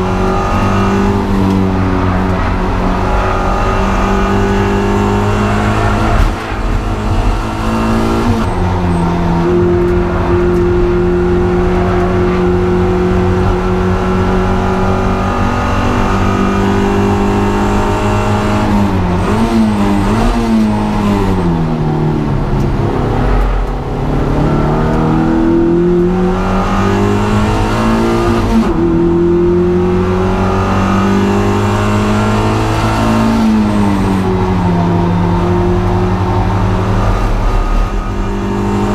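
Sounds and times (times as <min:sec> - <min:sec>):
racing car engine at high revs: 0:00.0 - 0:38.9.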